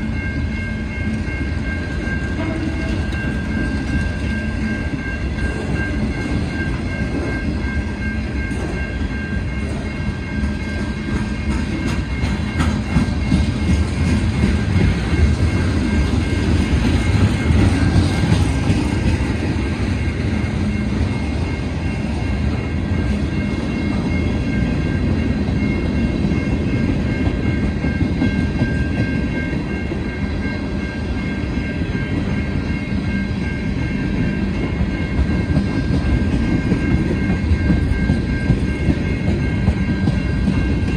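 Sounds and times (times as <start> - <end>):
train wheels rumbling: 0.0 - 40.9
clickety-clack over rail joints: 0.8 - 30.7, 31.5 - 40.9.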